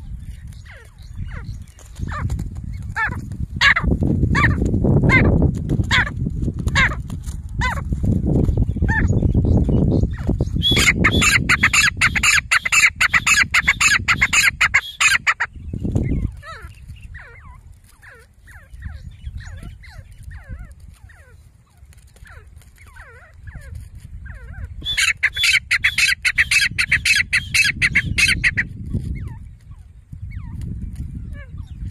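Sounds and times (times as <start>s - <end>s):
francolins calling: 0.0s - 5.3s, 8.5s - 31.9s.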